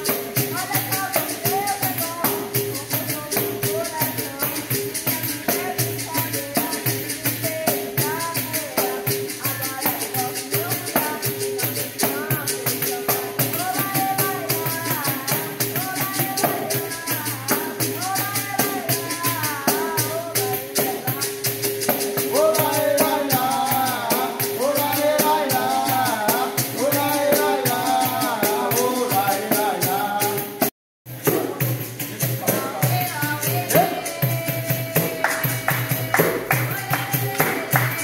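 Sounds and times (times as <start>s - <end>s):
pandeiro jingling beat: 0.0s - 38.0s
person singing: 0.0s - 38.0s.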